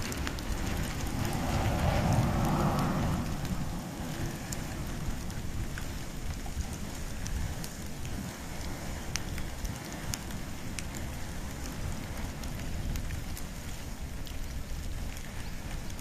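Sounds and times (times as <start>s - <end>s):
campfire flame rumble: 0.0s - 16.0s
fire crackling and popping: 0.0s - 16.0s.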